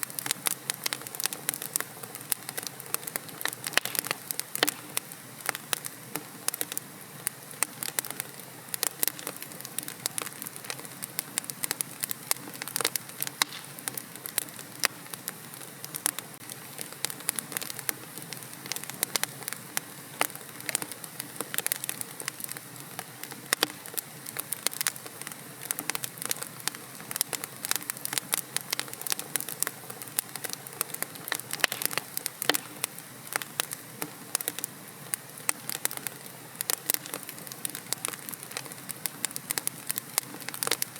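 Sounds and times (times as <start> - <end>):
low hiss of burning: 0.0 - 40.9
wood fire popping and snapping: 0.0 - 40.9.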